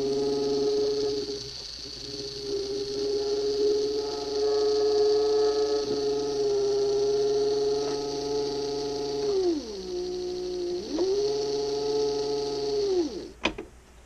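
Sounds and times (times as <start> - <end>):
small electric motor whine: 0.0 - 13.4
low motor hum: 0.0 - 13.5.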